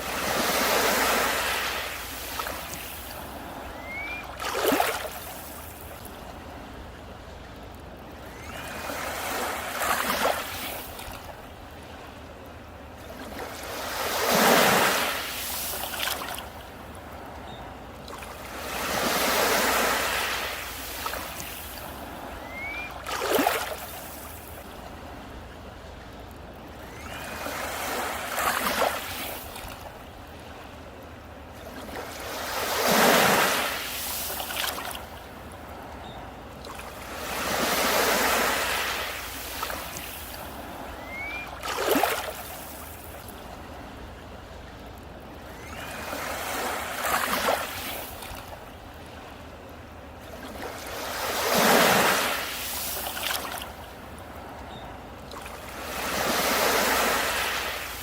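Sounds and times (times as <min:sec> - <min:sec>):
sea waves breaking on beach: 0:00.0 - 0:07.3, 0:08.1 - 0:25.6, 0:26.6 - 0:58.0.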